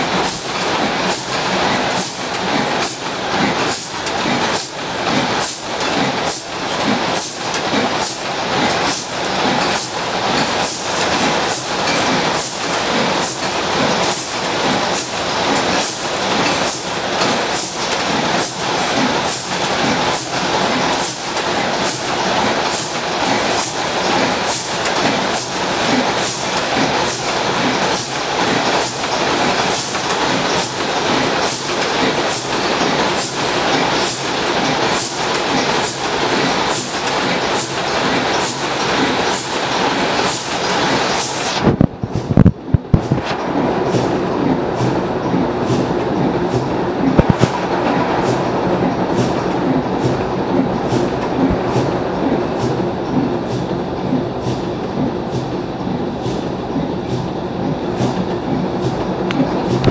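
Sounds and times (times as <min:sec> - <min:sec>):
stationary engine running slowly: 0:00.0 - 0:41.6, 0:42.7 - 0:59.9.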